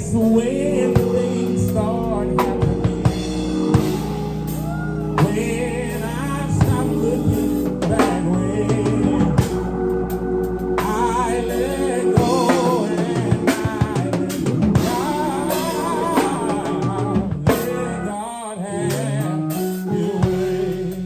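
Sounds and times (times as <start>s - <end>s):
drum kit: 0.0s - 18.0s, 18.9s - 21.0s
sustained low chords: 0.0s - 18.1s, 19.9s - 21.0s
person singing with vibrato: 0.0s - 21.0s
worship band playing: 0.0s - 21.0s.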